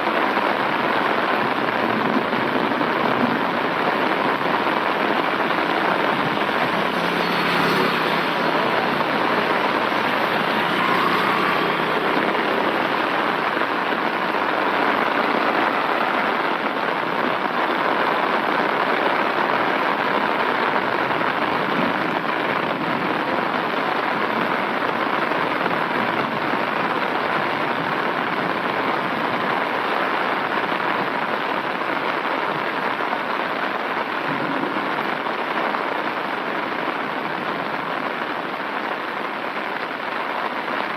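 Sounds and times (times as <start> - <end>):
rain falling on an umbrella: 0.0 - 40.9.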